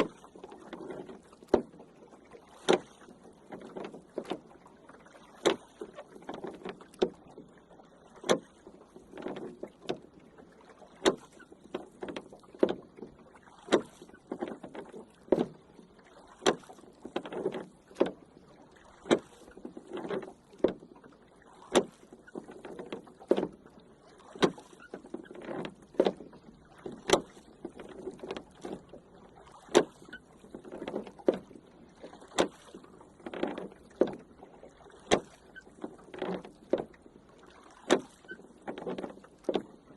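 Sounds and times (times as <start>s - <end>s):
oars knocking on wood: 0.0s - 1.8s, 2.5s - 4.5s, 5.4s - 7.4s, 8.1s - 10.2s, 11.0s - 15.7s, 16.3s - 18.3s, 19.0s - 21.0s, 21.7s - 23.6s, 24.2s - 29.0s, 29.6s - 39.9s
water swishing and splashing: 0.0s - 39.9s.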